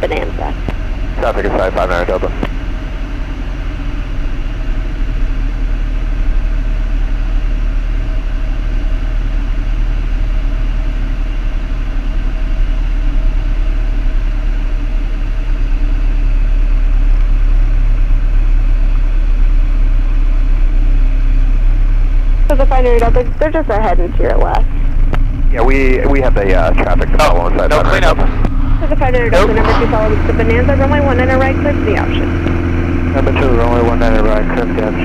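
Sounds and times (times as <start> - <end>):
propeller plane engine droning: 0.0 - 35.0.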